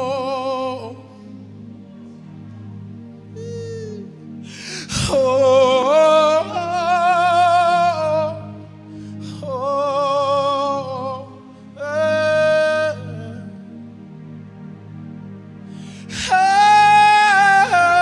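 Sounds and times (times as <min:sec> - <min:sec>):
sustained instrumental backing: 0:00.0 - 0:18.0.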